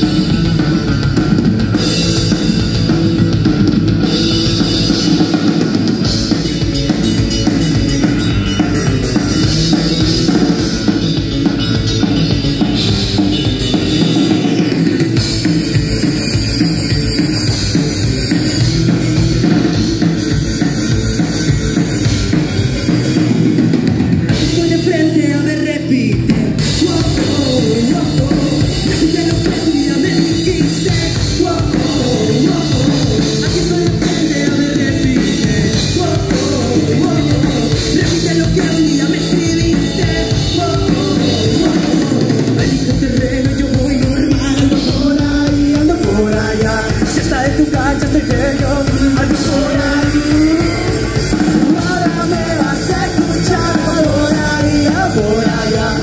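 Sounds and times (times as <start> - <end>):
drum kit: 0.0 - 56.0
live rock band playing: 0.0 - 56.0.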